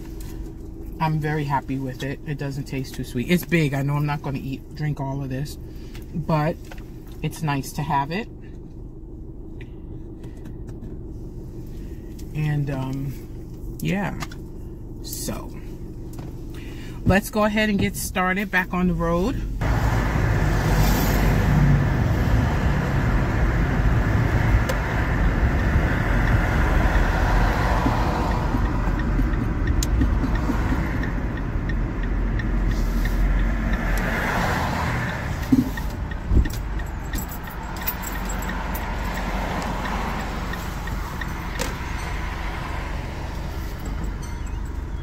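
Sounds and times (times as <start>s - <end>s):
road noise and engine rumble: 0.0s - 45.0s.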